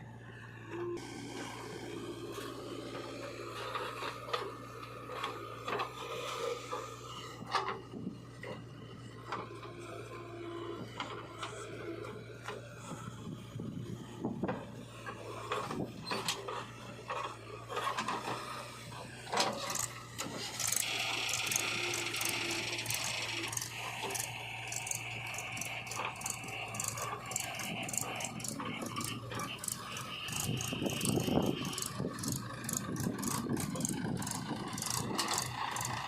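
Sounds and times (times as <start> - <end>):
diesel machinery humming: 0.0 - 36.0.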